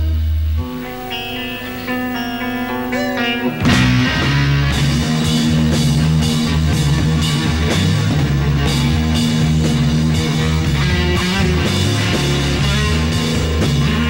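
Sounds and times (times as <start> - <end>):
held guitar chord: 0.0 - 14.0
rock band playing: 0.0 - 14.0.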